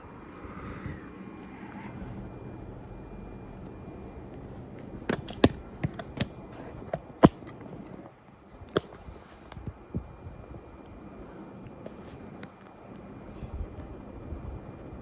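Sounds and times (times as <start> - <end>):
ceiling fan running: 0.0 - 15.0.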